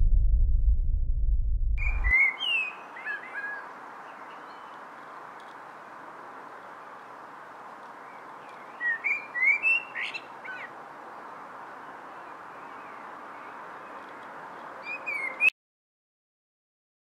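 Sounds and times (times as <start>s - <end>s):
songbird singing: 1.8s - 15.5s.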